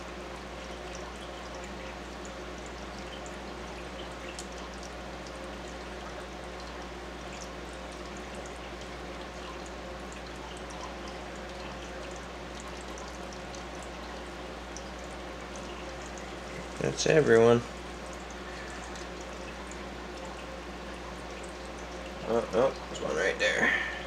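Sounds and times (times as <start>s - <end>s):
constant low hum: 0.0s - 24.0s
filter water trickling: 0.0s - 24.0s
air stone bubbling: 0.4s - 24.0s.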